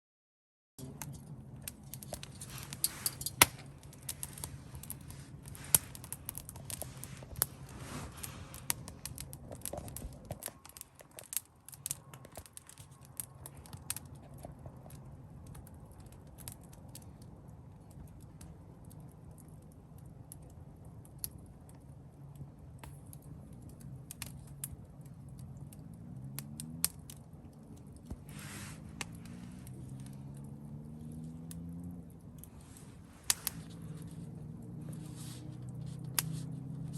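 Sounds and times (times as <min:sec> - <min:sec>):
campfire crackling: 0:00.8 - 0:36.9.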